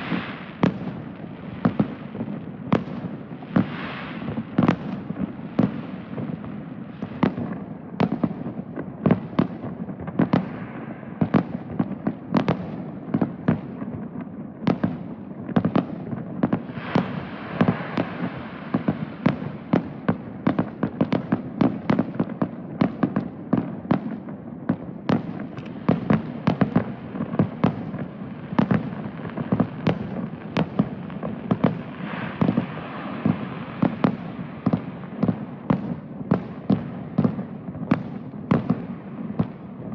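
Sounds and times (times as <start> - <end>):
fireworks crackle: 0.0 - 39.9.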